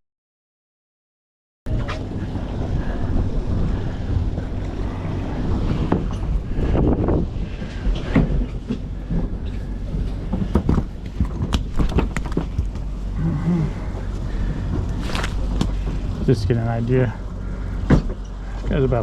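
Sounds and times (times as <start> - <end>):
boat engine droning: 1.7 - 19.0.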